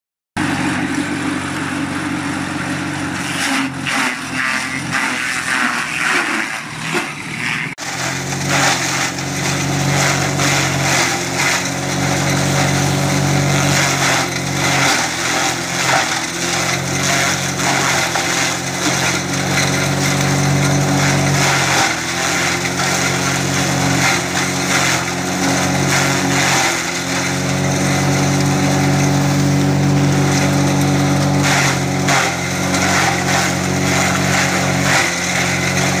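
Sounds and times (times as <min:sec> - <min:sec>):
chaff cutter machine hum: 0:00.4 - 0:36.0
crunching rattle of cutting stalks: 0:00.5 - 0:36.0.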